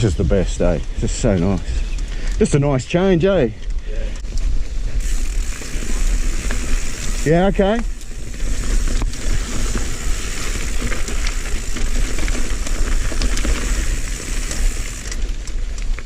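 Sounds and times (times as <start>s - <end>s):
bike tyre noise on dirt: 0.0s - 16.0s
bike clicks and rattles: 0.6s - 2.7s, 3.3s - 16.0s.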